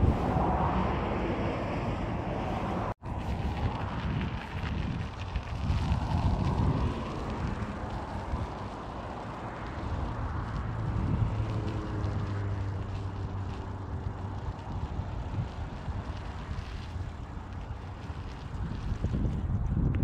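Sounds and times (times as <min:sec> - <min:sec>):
engine drone: 0:00.0 - 0:19.3
wind rumbling on microphone: 0:00.0 - 0:20.0.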